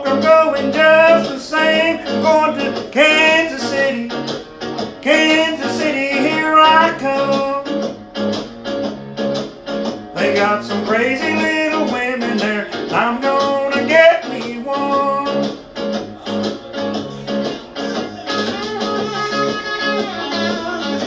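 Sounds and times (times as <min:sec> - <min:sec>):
person singing: 0:00.0 - 0:07.8, 0:10.1 - 0:21.0
strummed acoustic guitar: 0:00.0 - 0:21.0.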